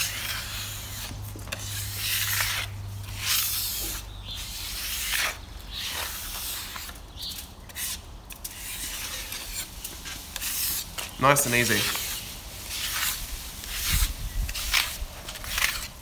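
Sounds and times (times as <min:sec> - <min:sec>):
spatula scraping varnish off wood: 0:00.0 - 0:16.0.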